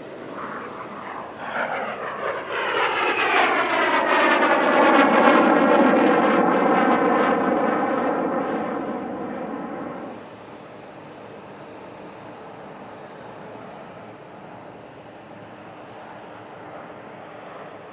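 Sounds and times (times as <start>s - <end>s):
jet flying past: 0.0s - 17.9s.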